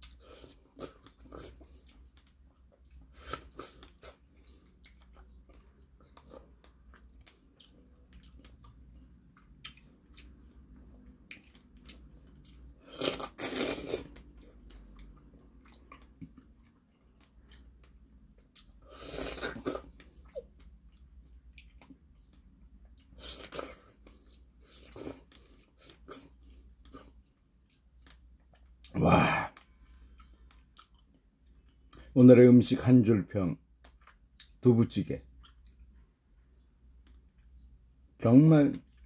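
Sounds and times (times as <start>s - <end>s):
person chewing strawberries: 0.0s - 32.2s, 33.6s - 34.7s, 35.3s - 38.0s.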